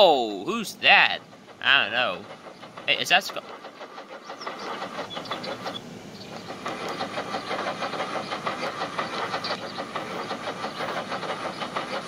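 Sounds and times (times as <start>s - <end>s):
cartoon steam locomotive chuffing: 0.0s - 12.0s.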